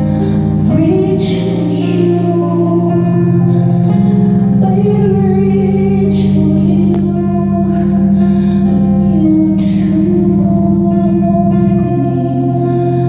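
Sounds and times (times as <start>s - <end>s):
low drone: 0.0s - 13.0s
sustained keyboard chords: 0.0s - 13.0s.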